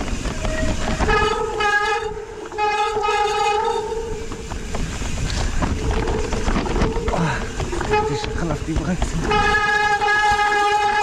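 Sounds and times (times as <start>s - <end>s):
bike disc brakes squealing: 0.0s - 11.0s
bike rattling on dirt: 0.0s - 11.0s.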